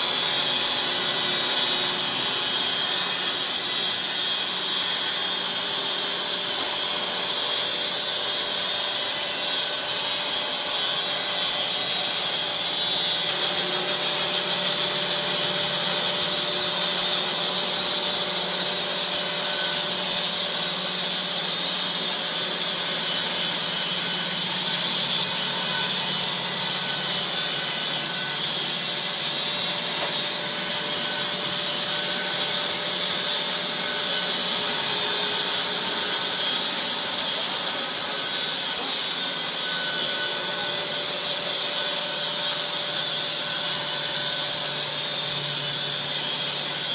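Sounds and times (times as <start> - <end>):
band saw blade cutting wood: 0.0 - 46.9.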